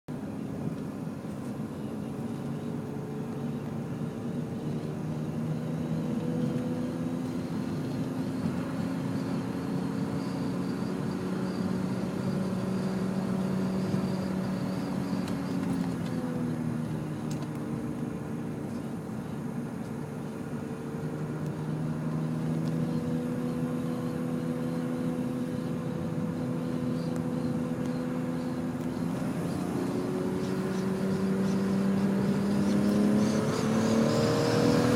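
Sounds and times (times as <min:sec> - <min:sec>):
car engine running: 0:00.1 - 0:34.9
road noise: 0:00.1 - 0:34.9.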